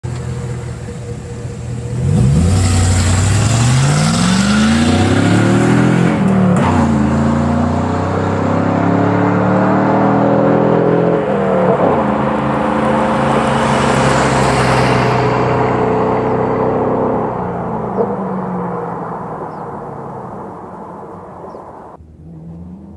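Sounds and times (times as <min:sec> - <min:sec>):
truck engine accelerating hard: 0:00.0 - 0:22.9.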